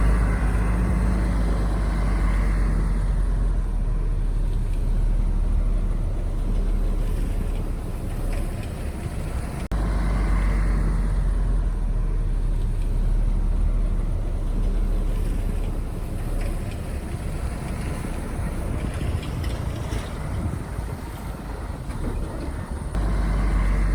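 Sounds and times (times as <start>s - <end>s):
heavy diesel engines rumbling: 0.0s - 23.9s.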